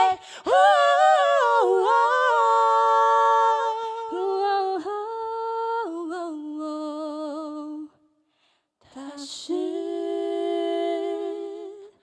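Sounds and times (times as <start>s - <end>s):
man and woman singing a cappella: 0.0s - 7.9s, 8.9s - 12.0s.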